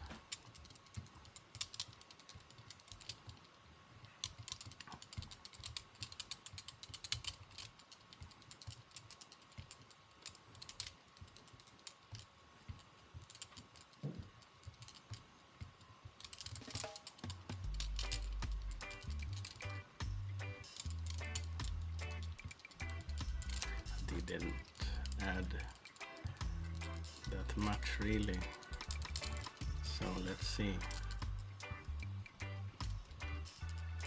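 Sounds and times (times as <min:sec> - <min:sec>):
faint clicks and taps from fly-tying: 0:00.0 - 0:20.0, 0:20.6 - 0:34.0.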